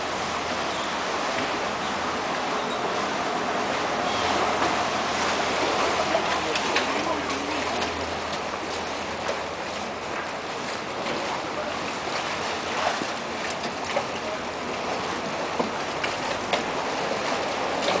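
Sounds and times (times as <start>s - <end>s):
water rushing past a boat: 0.0s - 18.0s.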